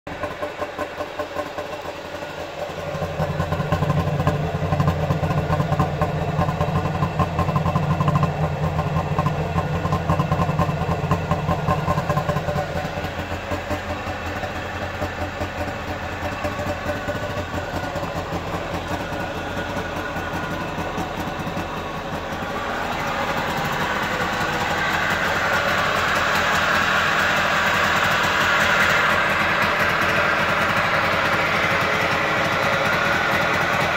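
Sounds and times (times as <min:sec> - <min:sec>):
two-stroke engine idling: 0:00.0 - 0:33.9.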